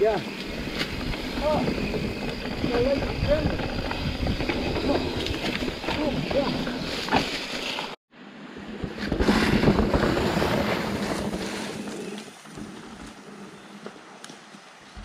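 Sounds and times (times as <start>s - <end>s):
bike tyres rolling over dry leaves: 0.0s - 15.0s.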